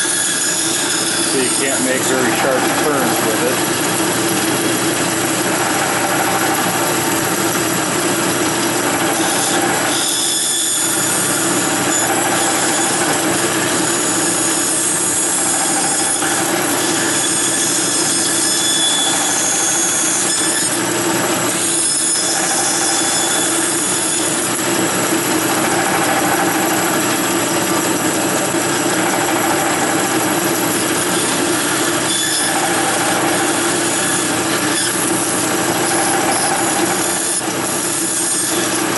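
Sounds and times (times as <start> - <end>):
bandsaw cutting wood: 0.0 - 38.9.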